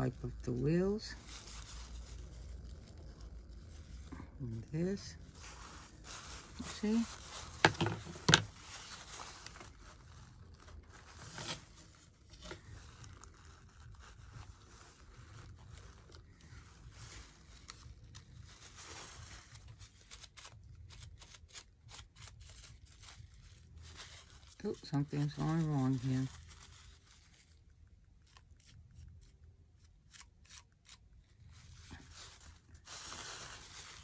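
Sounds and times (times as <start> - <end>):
fine crackles: 0.0 - 21.2, 22.2 - 28.0, 31.4 - 34.0
rag rubbing and crinkling: 0.0 - 29.5, 30.1 - 34.0.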